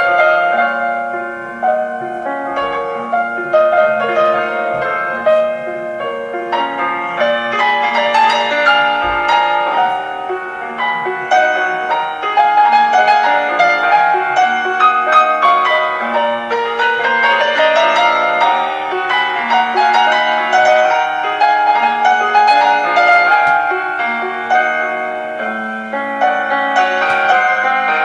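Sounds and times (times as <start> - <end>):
classical piano music: 0.0 - 28.0.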